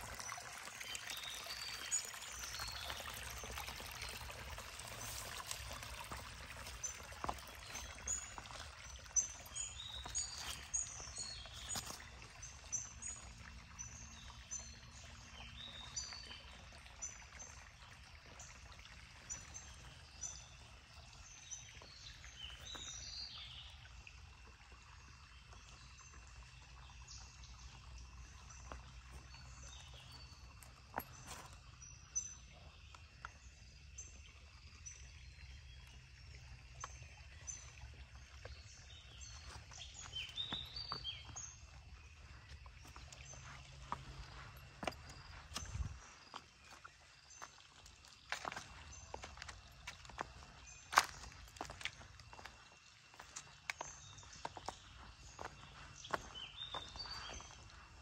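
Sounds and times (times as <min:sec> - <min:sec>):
stream trickling: 0:00.0 - 0:58.0
small birds chirping: 0:00.3 - 0:24.1, 0:34.8 - 0:58.0.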